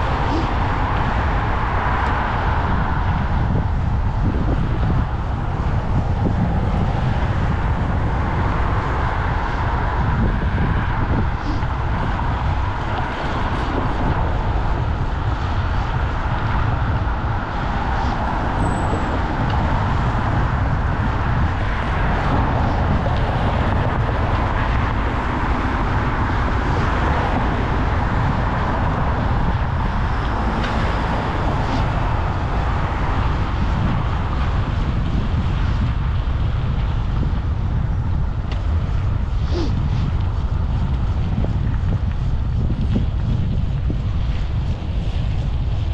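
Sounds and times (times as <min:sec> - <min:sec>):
passing cars: 0:00.0 - 0:45.9
wind rumble on microphone: 0:00.0 - 0:45.9.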